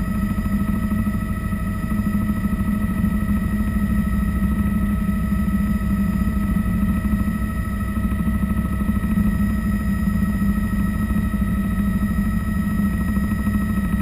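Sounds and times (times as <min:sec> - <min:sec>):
helicopter turbine and rotor: 0:00.0 - 0:14.0.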